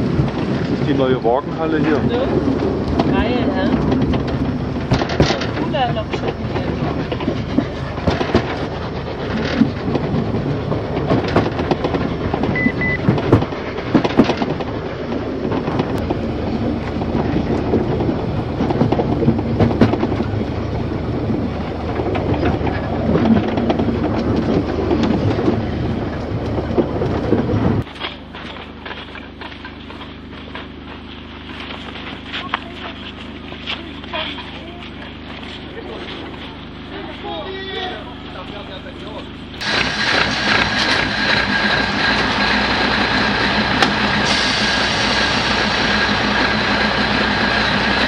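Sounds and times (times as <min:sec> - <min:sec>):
train wheels clattering over rails: 0:00.0 - 0:48.0.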